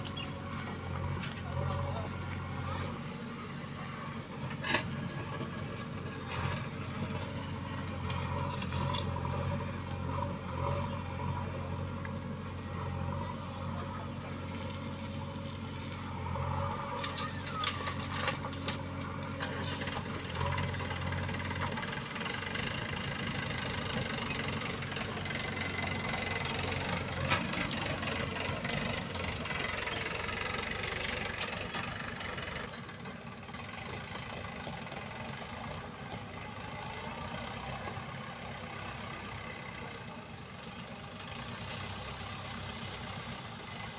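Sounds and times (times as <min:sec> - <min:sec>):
heavy diesel engines running: 0:00.0 - 0:43.9.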